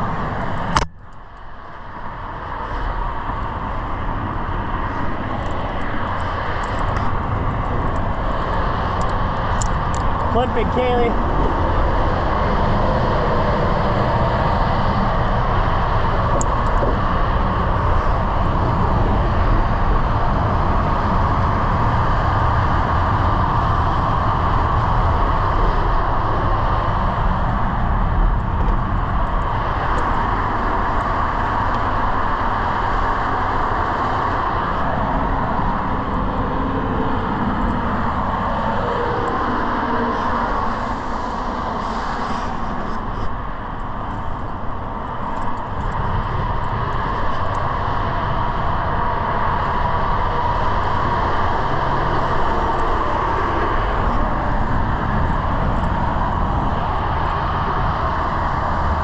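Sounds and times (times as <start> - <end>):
highway traffic rumble and hiss: 0.0 - 59.0.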